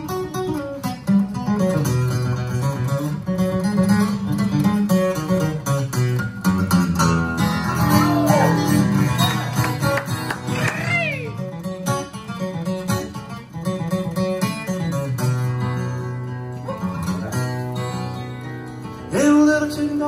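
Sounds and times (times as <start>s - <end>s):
acoustic guitar fingerpicking: 0.0s - 20.0s.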